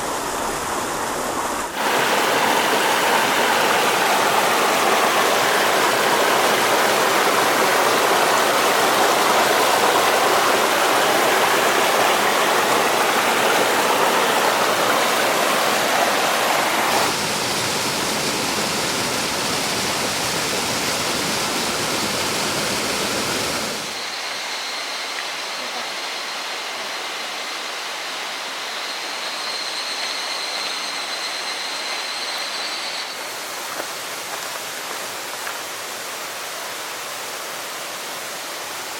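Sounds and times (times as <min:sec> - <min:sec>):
stream water rushing: 0:00.0 - 0:25.4, 0:33.1 - 0:38.9.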